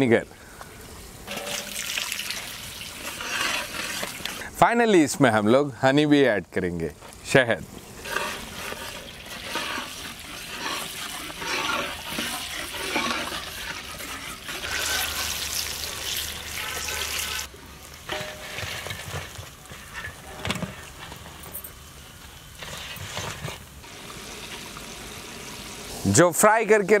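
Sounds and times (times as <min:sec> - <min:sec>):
chicken deep-frying in hot oil: 0:00.6 - 0:04.5, 0:07.6 - 0:21.0, 0:21.8 - 0:27.0.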